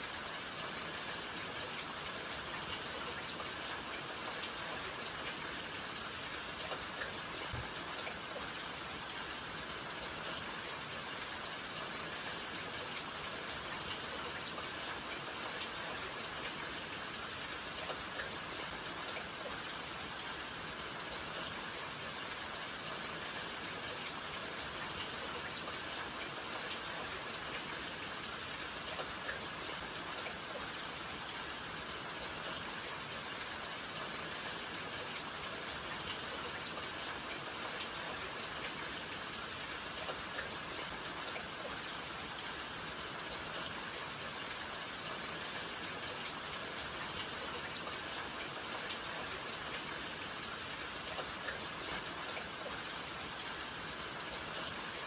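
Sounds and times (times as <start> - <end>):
raindrops ticking on surfaces: 0.0 - 55.0
steady rain hiss: 0.0 - 55.0.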